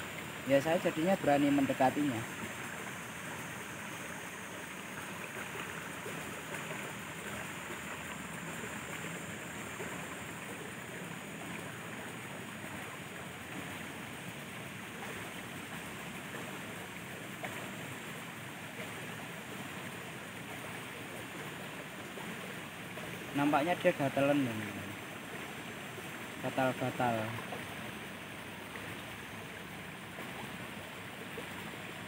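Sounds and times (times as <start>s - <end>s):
water rushing along concrete channel: 0.0s - 32.0s.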